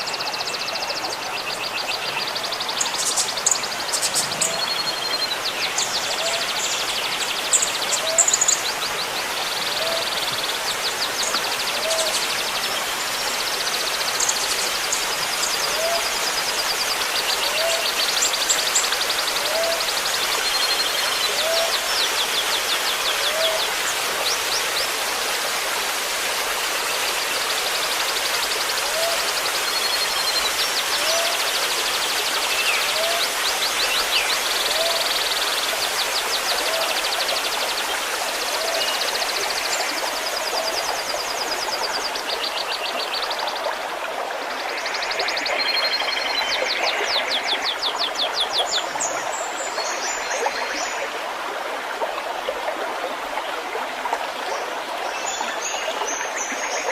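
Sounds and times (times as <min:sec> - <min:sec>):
trickle of running water: 0:00.0 - 0:56.9.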